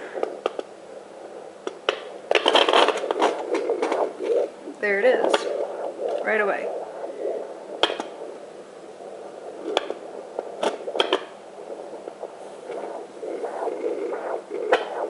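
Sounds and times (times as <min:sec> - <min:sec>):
rhythmic whooshing pulse: 0:00.0 - 0:15.0.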